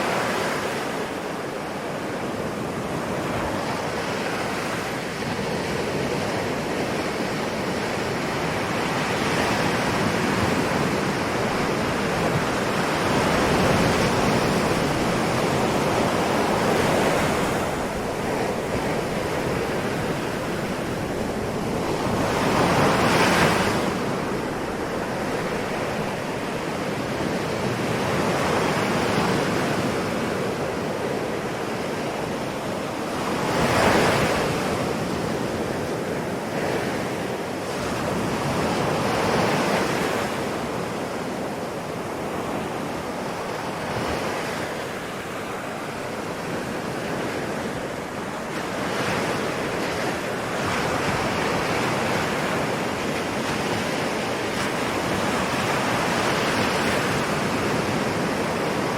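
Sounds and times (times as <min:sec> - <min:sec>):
ocean waves breaking: 0:00.0 - 0:58.9
wind: 0:00.0 - 0:58.9.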